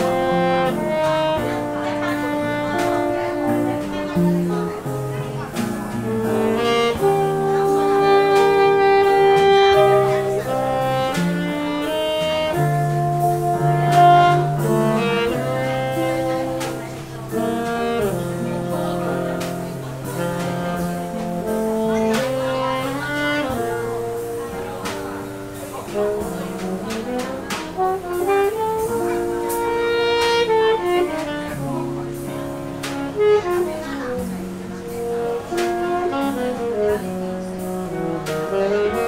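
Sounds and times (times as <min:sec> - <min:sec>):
light drums: 0:00.0 - 0:39.0
saxophone melody: 0:00.0 - 0:39.0.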